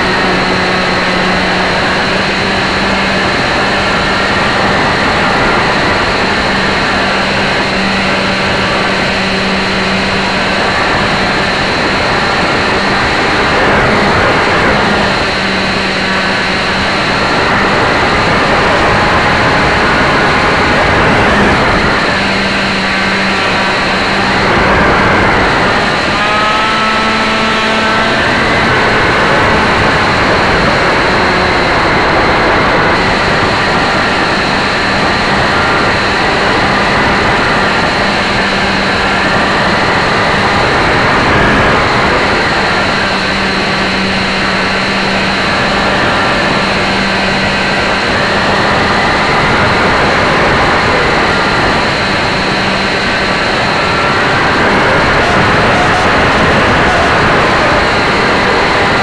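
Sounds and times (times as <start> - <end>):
electric motor whine: 0.0 - 59.0
wind on microphone: 0.0 - 59.0.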